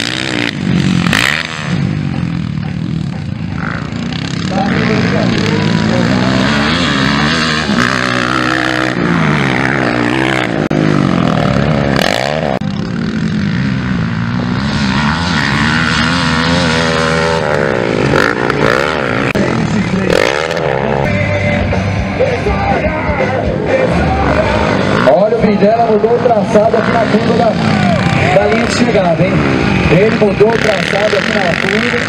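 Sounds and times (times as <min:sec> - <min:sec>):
motocross bike engines revving: 0:00.0 - 0:32.0.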